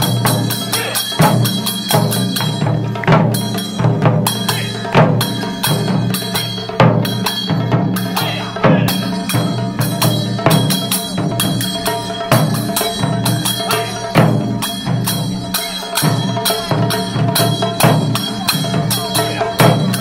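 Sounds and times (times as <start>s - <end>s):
drum ensemble playing fast rhythm: 0.0s - 20.0s
small hand cymbals ringing: 0.0s - 20.0s.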